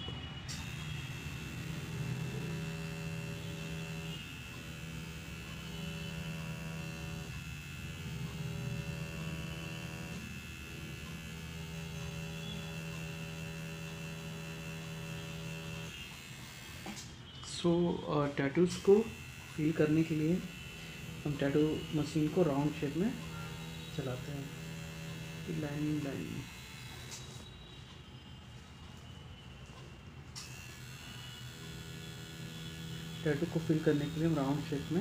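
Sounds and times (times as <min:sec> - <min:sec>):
tattoo machine buzzing: 0:00.0 - 0:27.7, 0:30.3 - 0:35.0.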